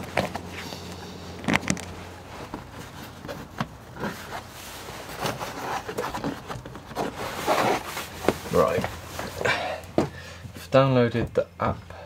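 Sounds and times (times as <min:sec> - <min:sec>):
cable rustling on wood: 0:00.0 - 0:10.8.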